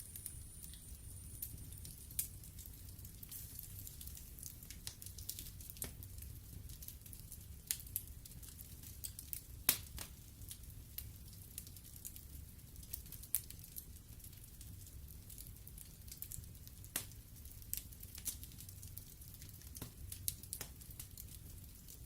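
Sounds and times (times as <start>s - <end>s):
low rumble of fire: 0.0s - 22.0s
burning logs snapping and popping: 1.8s - 22.0s.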